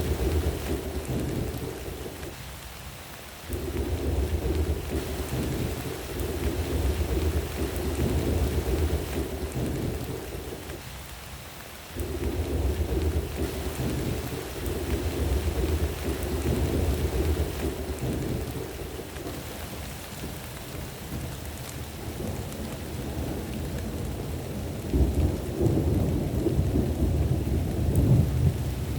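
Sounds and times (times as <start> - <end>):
thunder rumbling: 0.0 - 2.7, 3.4 - 11.2, 11.9 - 28.9
steady rain: 0.0 - 28.9.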